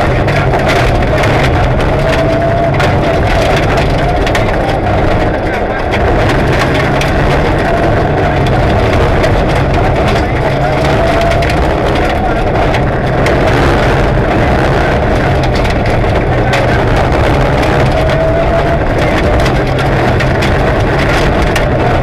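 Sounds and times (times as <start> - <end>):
car engine at high revs: 0.0 - 22.0
gravel clattering against underside: 0.0 - 22.0.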